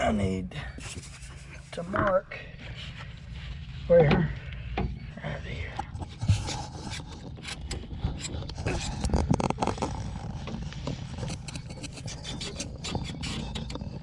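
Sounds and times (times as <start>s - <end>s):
pipe rubbing and scraping: 0.0s - 14.0s.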